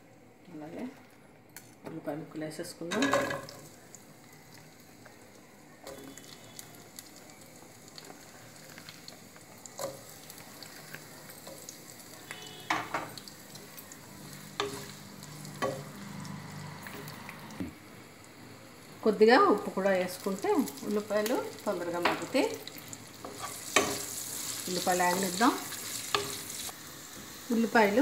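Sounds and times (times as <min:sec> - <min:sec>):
onions sizzling in oil: 0:02.5 - 0:28.0.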